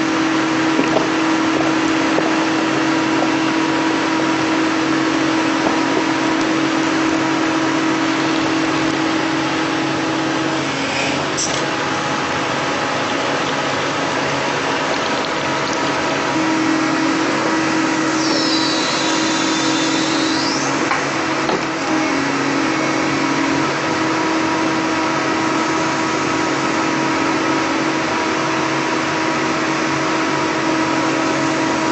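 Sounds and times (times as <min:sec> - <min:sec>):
excavator under hydraulic load: 0:00.0 - 0:31.9
steady hydraulic whine: 0:00.0 - 0:31.9.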